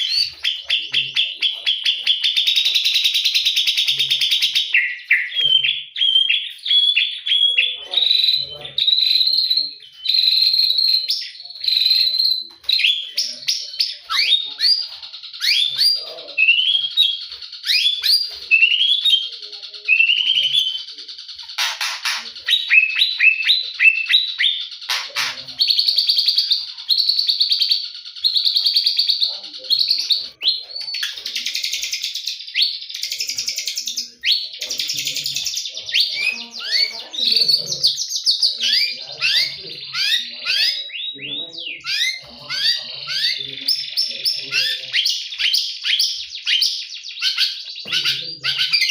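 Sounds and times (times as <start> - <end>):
songbird singing varied song: 0.0 - 48.9.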